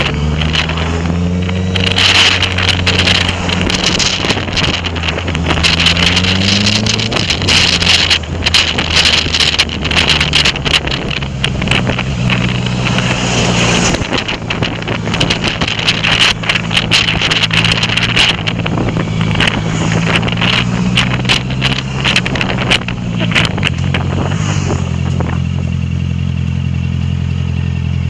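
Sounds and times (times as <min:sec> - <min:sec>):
wind buffeting microphone: 0:00.0 - 0:25.9
motorcycle engine running: 0:00.0 - 0:28.0.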